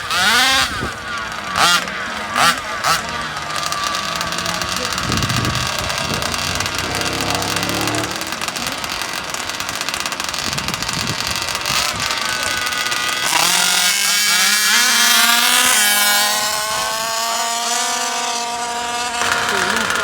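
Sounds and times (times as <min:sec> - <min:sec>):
rc car gas engine revving: 0:00.0 - 0:20.0.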